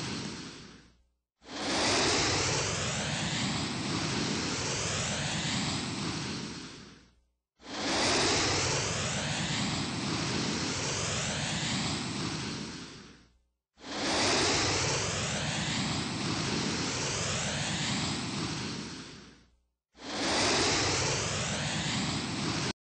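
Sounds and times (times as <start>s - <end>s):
ceiling fan whooshing air: 0.0s - 22.8s.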